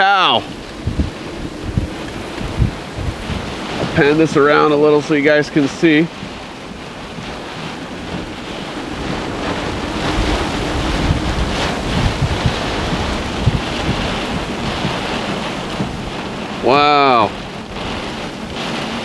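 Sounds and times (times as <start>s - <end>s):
wind gusts buffeting microphone: 0.0s - 19.0s
wind-driven rain: 0.0s - 19.0s.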